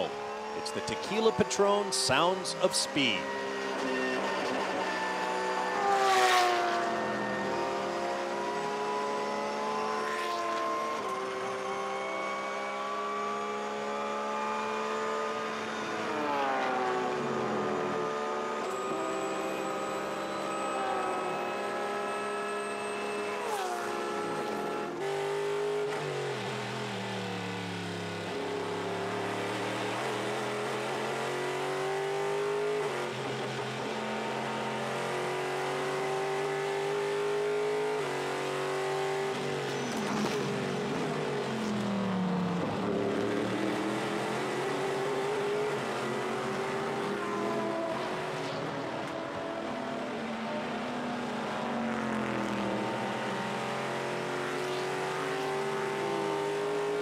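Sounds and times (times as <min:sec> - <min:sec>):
race engine accelerating and downshifting: 0:00.0 - 0:57.0
race engine at high revs: 0:00.0 - 0:57.0.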